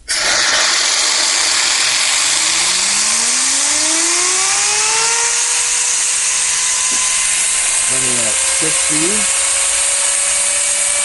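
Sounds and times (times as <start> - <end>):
steam hissing: 0.0 - 11.0
turbine whine rising in pitch: 0.0 - 11.0.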